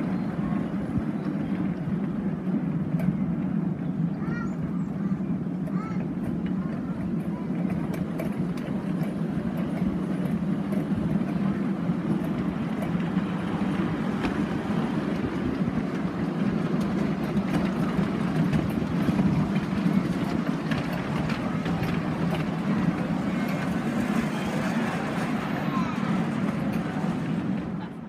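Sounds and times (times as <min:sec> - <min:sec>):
train cars rumbling on track: 0:00.0 - 0:28.0
wheels clicking on rails: 0:00.0 - 0:28.0.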